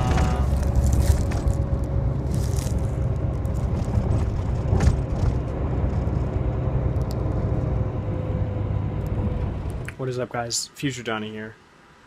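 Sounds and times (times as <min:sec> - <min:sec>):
vehicle rumble inside cabin: 0:00.0 - 0:10.0.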